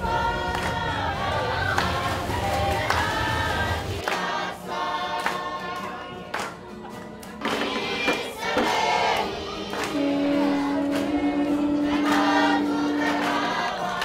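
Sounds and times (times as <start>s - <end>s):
choir singing in harmony: 0.0s - 6.4s, 7.4s - 14.0s.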